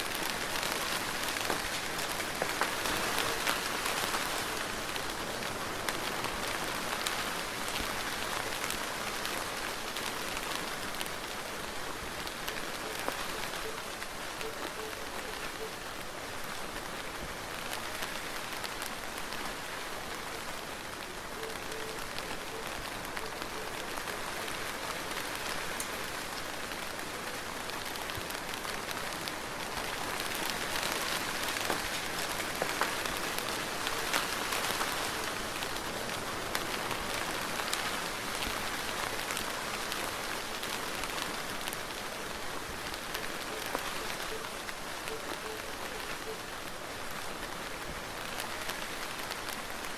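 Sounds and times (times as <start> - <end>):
soft rain falling: 0.0 - 49.9.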